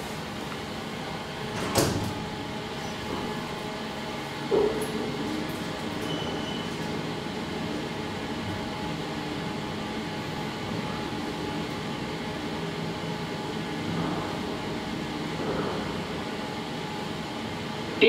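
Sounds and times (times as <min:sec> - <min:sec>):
elevator running hum: 0:00.0 - 0:18.0.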